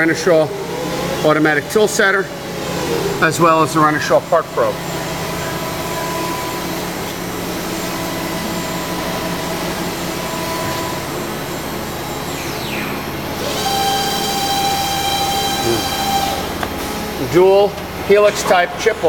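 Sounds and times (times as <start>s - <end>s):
machine whirring hiss: 0.0s - 18.4s.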